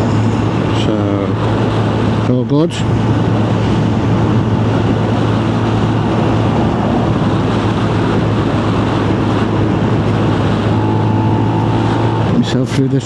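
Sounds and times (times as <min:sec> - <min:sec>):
motorcycle engine hum: 0:00.0 - 0:13.0
wind rush on microphone: 0:00.0 - 0:13.0.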